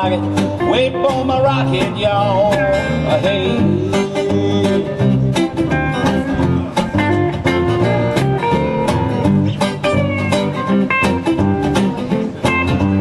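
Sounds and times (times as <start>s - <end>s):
live country-rock band: 0.0s - 13.0s.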